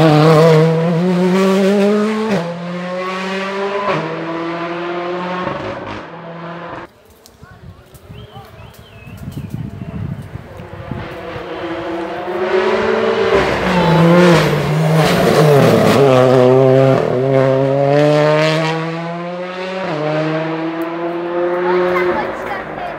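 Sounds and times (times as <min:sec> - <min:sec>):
rally car engine revving: 0:00.0 - 0:06.9, 0:10.4 - 0:22.9.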